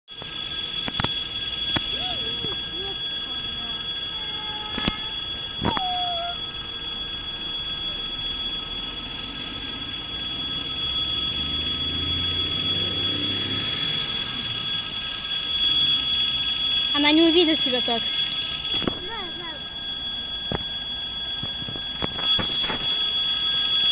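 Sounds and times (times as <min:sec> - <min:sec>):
high-pitched whine: 0:00.1 - 0:23.9
distant train rumble: 0:00.2 - 0:23.9.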